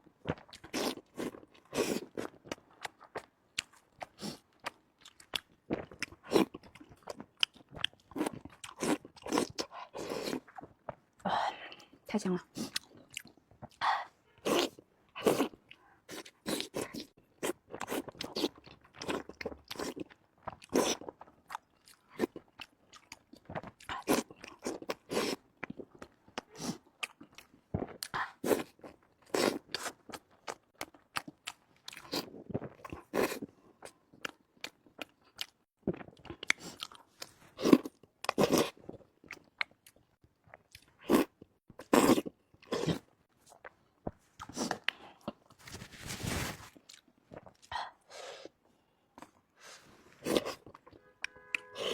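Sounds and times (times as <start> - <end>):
person chewing: 0.2 - 11.0, 12.6 - 13.8, 14.4 - 48.6, 49.2 - 51.9.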